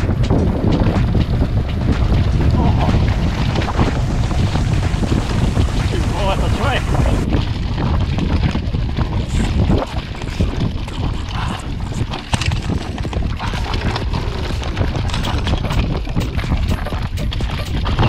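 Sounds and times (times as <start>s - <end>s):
bike rattling over bumps: 0.0s - 18.0s
tyres rumbling on dirt track: 0.0s - 18.0s
wind buffeting camera: 0.0s - 18.0s.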